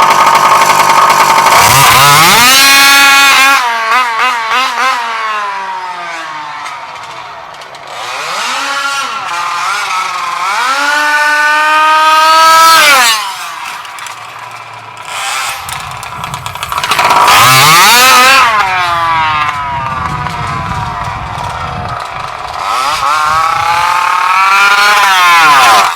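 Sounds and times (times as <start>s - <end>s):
two-stroke engine revving: 0.0s - 25.9s.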